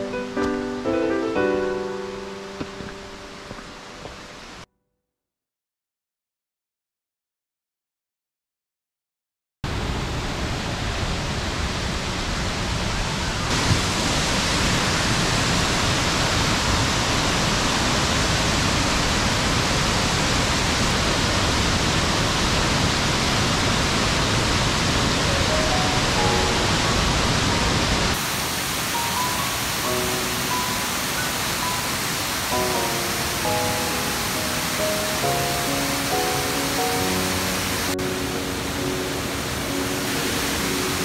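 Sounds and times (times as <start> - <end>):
waterfall rushing: 0.0 - 4.7, 9.7 - 41.0.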